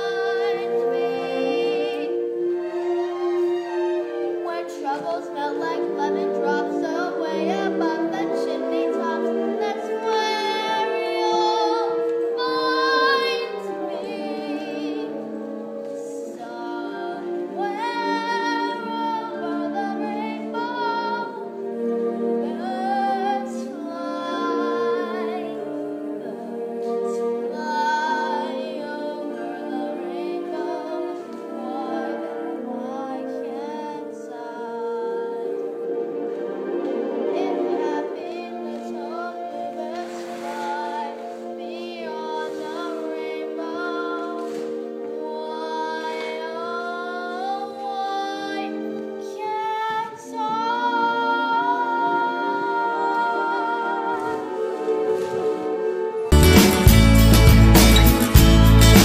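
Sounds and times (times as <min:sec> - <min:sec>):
sustained accompaniment: 0:00.0 - 0:59.0.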